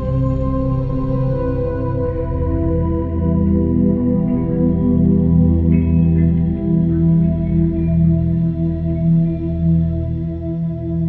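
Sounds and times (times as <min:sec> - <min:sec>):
ambient music with held tones: 0:00.0 - 0:11.0.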